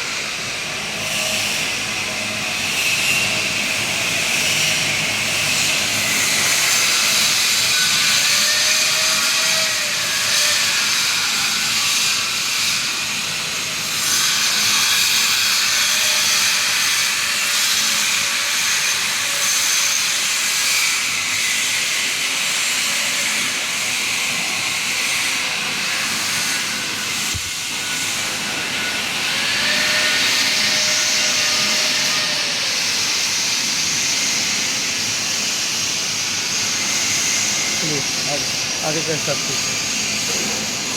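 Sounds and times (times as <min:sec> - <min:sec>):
welding arc hissing: 0:04.3 - 0:40.9.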